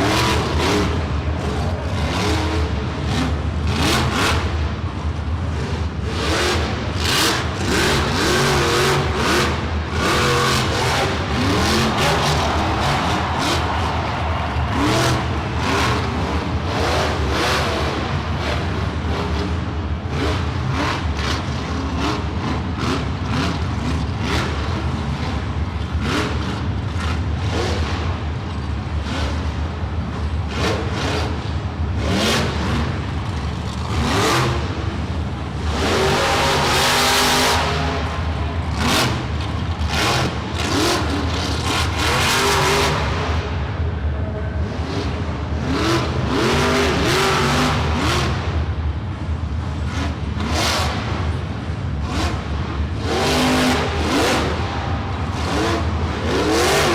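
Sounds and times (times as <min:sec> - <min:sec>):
truck engine revving hard: 0:00.0 - 0:28.2, 0:30.4 - 0:43.7, 0:44.7 - 0:48.8, 0:49.6 - 0:56.9.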